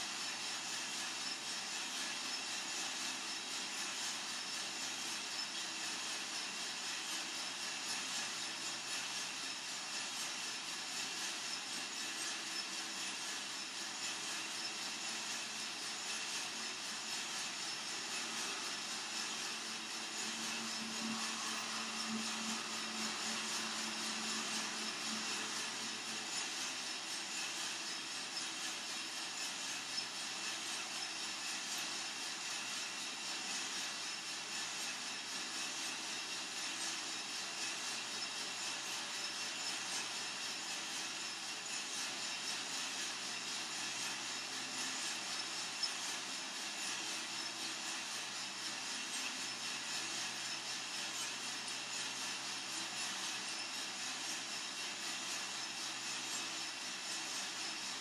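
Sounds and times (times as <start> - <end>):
coffee roaster hissing: 0.0 - 58.0.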